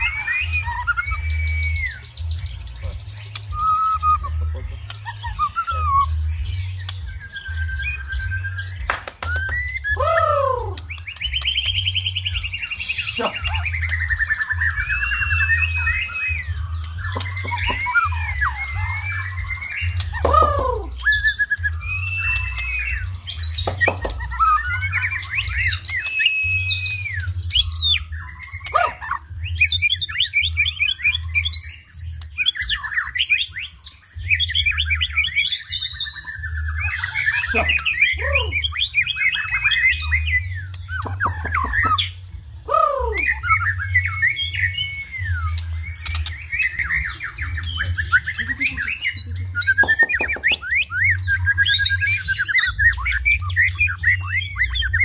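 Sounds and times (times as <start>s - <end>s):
songbird singing whistles and trills: 0.0s - 55.0s.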